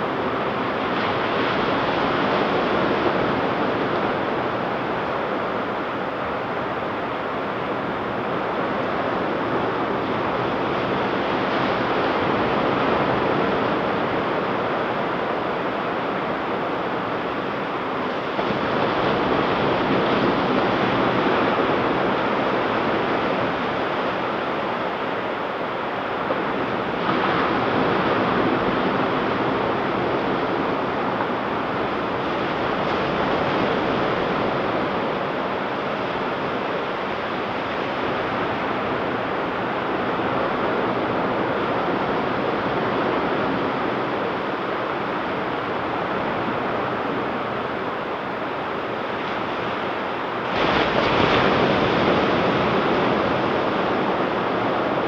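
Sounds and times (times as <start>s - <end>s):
ocean surf washing onto beach: 0.0s - 55.0s.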